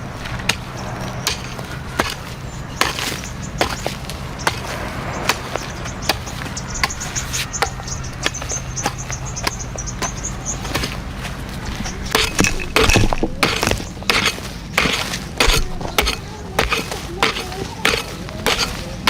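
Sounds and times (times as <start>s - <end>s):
blade chopping: 0.2s - 19.0s.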